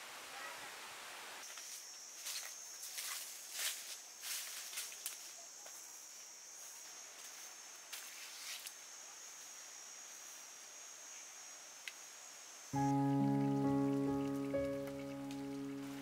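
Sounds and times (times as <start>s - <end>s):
insect drone: 1.4s - 16.0s.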